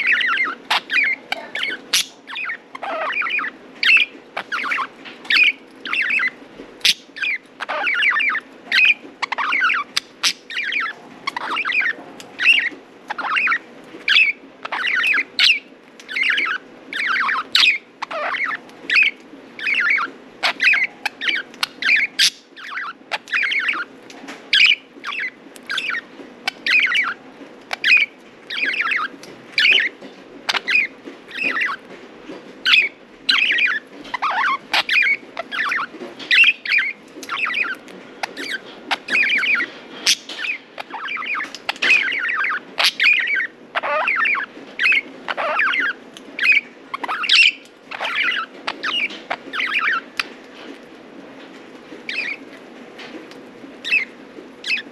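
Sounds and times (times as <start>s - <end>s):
budgerigars chattering: 0.0s - 23.9s, 24.5s - 31.8s, 32.6s - 50.4s, 52.1s - 52.4s, 53.8s - 54.9s
low background hum: 0.0s - 54.9s.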